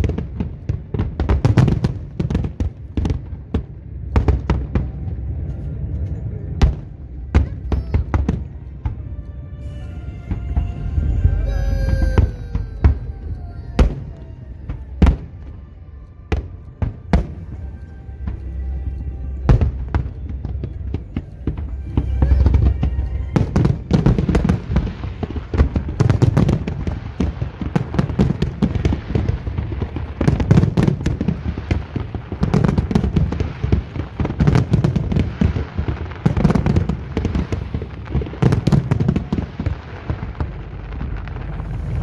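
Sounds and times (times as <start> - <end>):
fireworks booming: 0.0 - 5.9, 6.5 - 42.0
fireworks crackling: 0.0 - 42.0.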